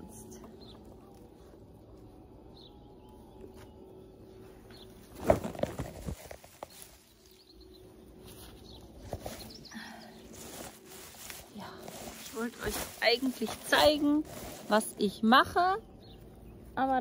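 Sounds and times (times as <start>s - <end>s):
grass and leaves rustling: 0.0s - 17.0s.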